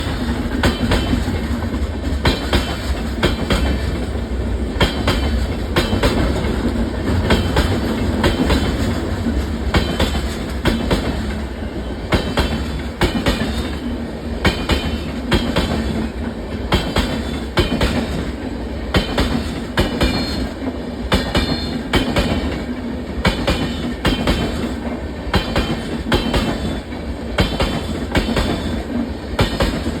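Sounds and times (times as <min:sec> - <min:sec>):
train rail noise: 0:00.0 - 0:30.0.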